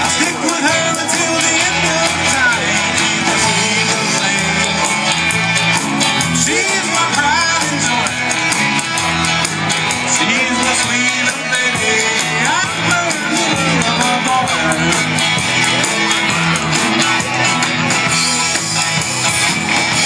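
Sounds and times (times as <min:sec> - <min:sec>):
bass: 0:00.0 - 0:20.0
drums steady beat: 0:00.0 - 0:20.0
electric guitar: 0:00.0 - 0:20.0.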